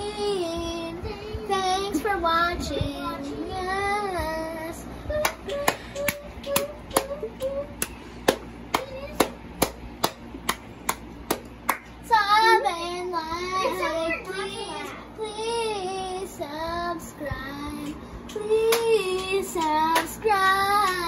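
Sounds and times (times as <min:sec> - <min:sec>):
child singing into a fan: 0:00.0 - 0:09.8, 0:11.9 - 0:21.0.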